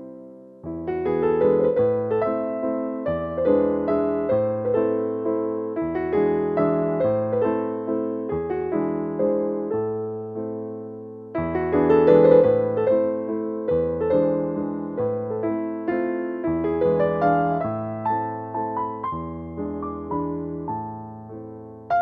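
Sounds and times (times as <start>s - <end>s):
soft piano chords: 0.0s - 22.0s.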